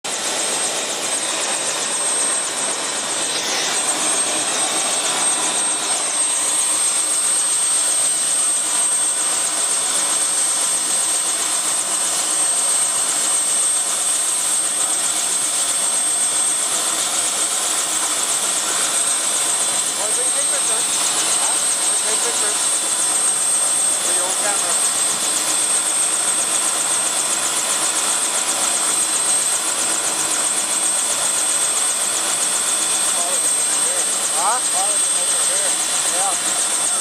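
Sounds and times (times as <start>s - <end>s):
helicopter rotor rush: 0.1s - 37.0s
helicopter turbine whine: 0.1s - 37.0s.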